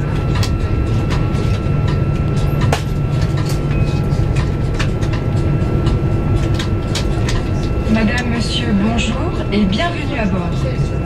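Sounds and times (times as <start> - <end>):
low engine rumble in cabin: 0.0 - 11.0
thin steady whine: 0.0 - 11.0.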